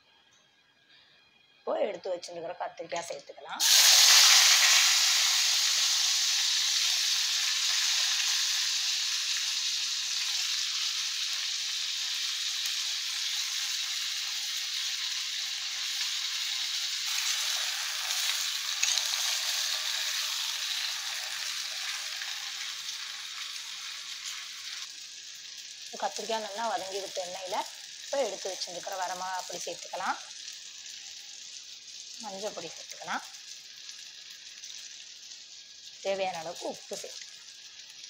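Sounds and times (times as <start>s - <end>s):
eggplant sizzling in hot oil: 0.9s - 38.0s.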